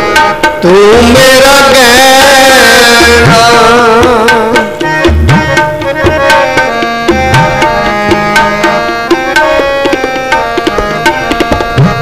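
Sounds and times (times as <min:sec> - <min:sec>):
harmonium chords: 0:00.0 - 0:12.0
tabla strokes: 0:00.0 - 0:12.0.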